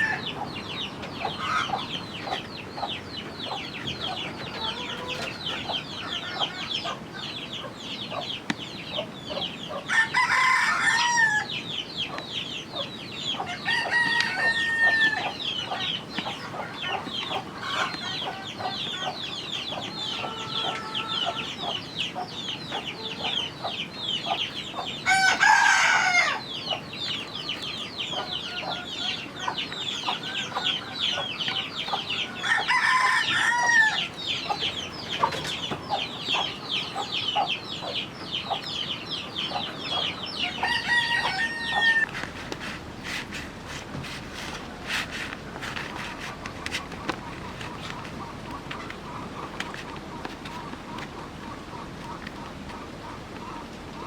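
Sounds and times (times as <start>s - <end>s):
roosters crowing: 0.0s - 0.5s, 3.5s - 7.0s, 9.7s - 11.6s, 13.2s - 50.7s
chickens chirping and clucking: 0.0s - 54.0s.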